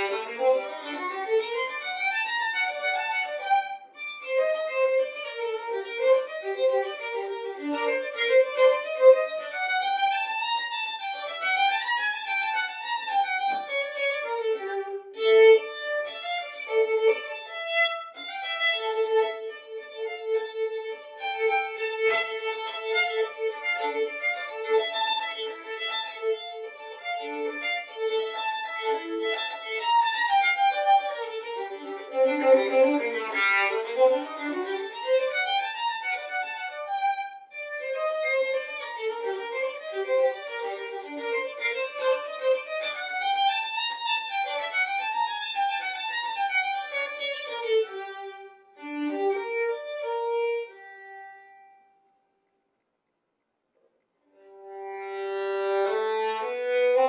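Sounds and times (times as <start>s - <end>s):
solo violin playing: 0.0s - 52.1s, 54.3s - 57.0s.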